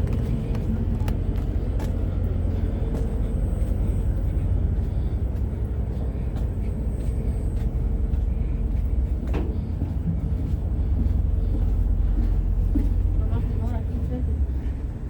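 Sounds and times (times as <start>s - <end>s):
ferry engines rumbling: 0.0s - 15.0s.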